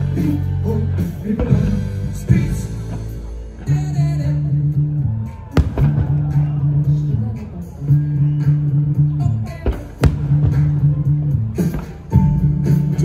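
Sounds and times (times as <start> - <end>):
sustained bass notes: 0.0 - 13.0.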